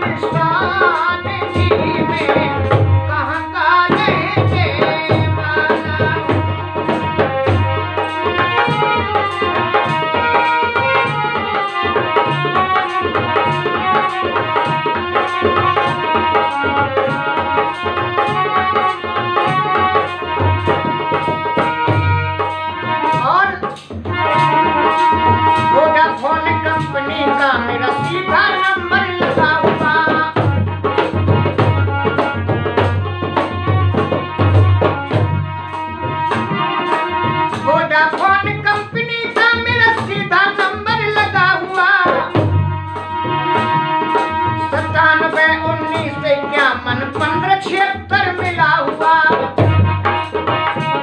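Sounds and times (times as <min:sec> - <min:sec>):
man singing: 0:00.0 - 0:35.2, 0:36.3 - 0:51.0
dholak drum rhythm: 0:00.0 - 0:51.0
harmonium chords and melody: 0:00.0 - 0:51.0.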